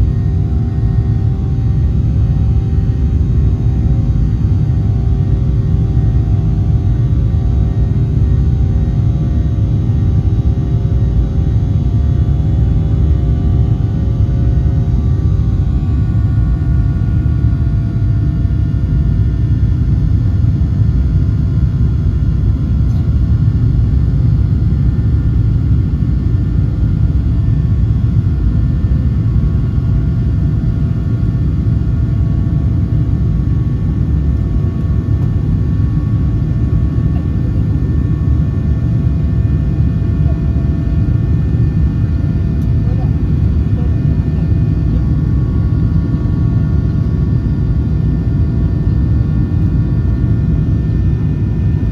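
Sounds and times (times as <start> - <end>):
airplane cabin rumble: 0.0 - 51.9
jet engine whine: 0.0 - 51.9.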